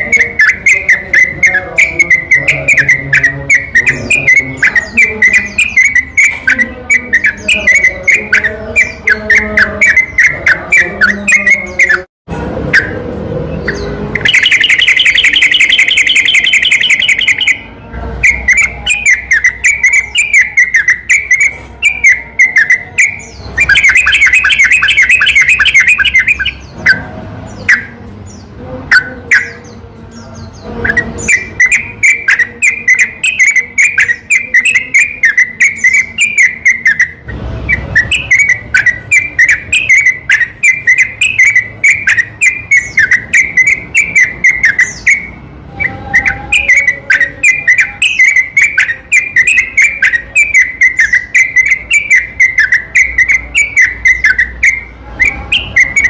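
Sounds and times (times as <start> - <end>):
bird song chirpy phrases: 0.0 - 12.1, 12.7 - 56.0
fast rattling bird trill: 0.0 - 12.1, 13.6 - 29.7, 30.5 - 45.4, 46.1 - 56.0.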